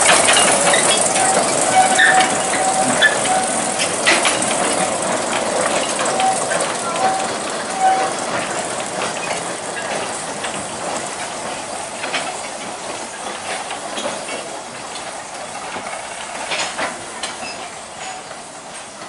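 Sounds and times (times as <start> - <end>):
freight train wagons rolling: 0.0 - 19.0
wheels clicking on rails: 0.0 - 19.0.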